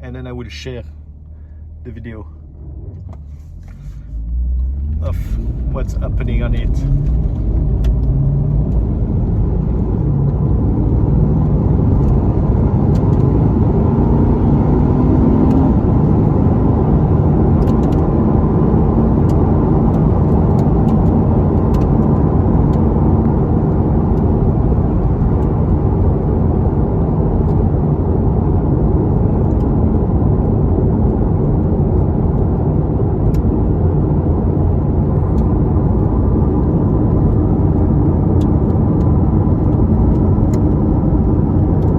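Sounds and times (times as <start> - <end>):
car engine rumbling inside cabin: 0.0 - 41.9.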